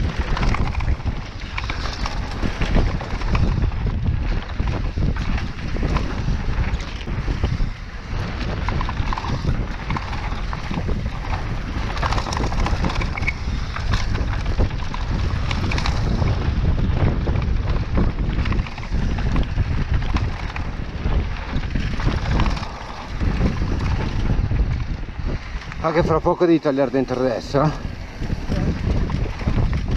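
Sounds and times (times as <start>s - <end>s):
bike rattling and knocking: 0.0s - 29.9s
wind rushing over microphone: 0.0s - 29.9s.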